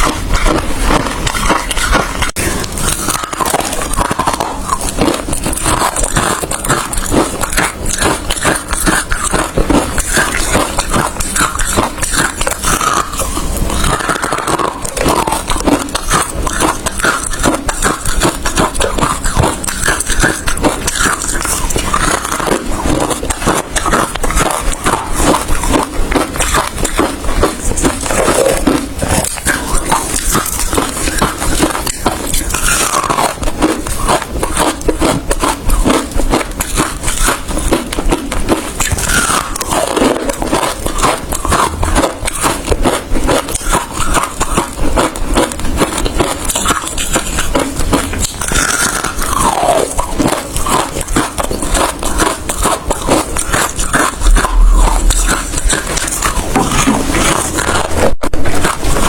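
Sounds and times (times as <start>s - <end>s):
chewing ice crunching: 0.0s - 59.0s.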